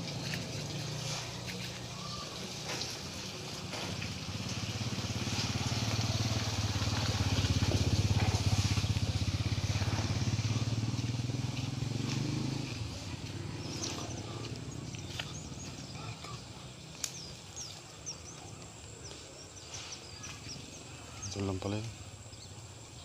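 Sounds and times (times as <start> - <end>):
small engine passing by: 0.0 - 23.0.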